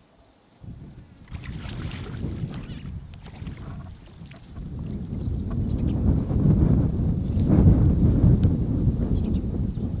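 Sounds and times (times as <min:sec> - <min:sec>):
wind buffeting microphone: 0:00.6 - 0:10.0.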